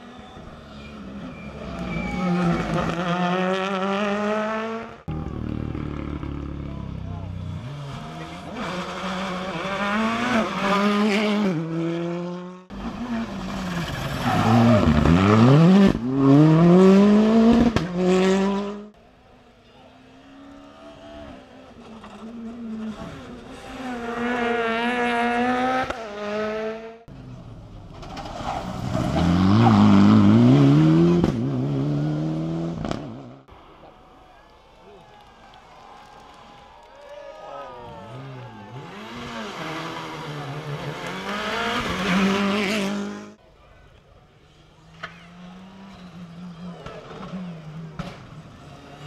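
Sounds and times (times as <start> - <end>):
rally car engines revving: 0.0 - 19.0, 19.7 - 33.5, 37.9 - 43.4, 44.5 - 49.0.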